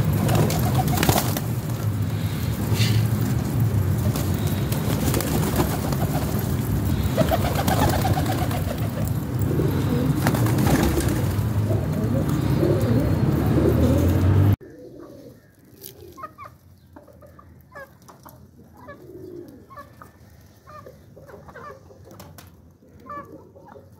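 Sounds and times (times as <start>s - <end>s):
pigeons cooing: 0.0s - 16.5s, 17.2s - 23.9s.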